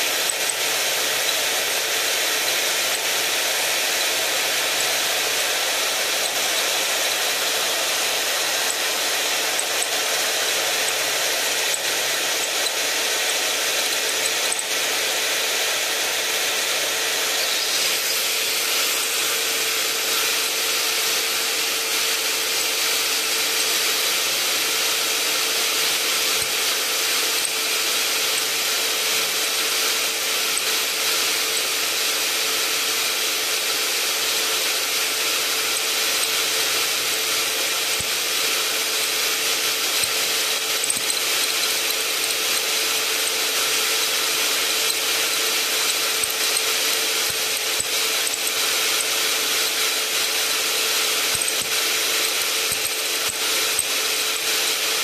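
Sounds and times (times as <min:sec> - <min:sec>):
power drill cutting metal: 0:00.0 - 0:55.0.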